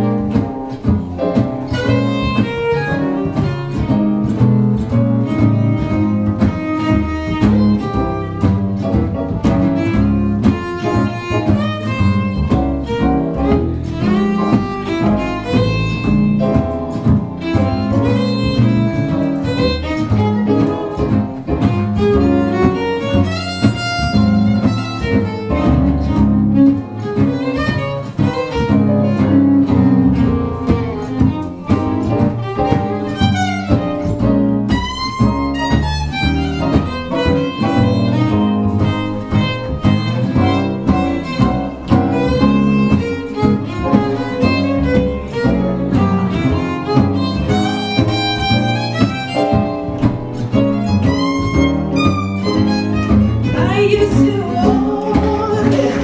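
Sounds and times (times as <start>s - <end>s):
bass: 0.0s - 56.0s
guitar: 0.0s - 56.0s
jazz violin solo: 0.0s - 56.0s.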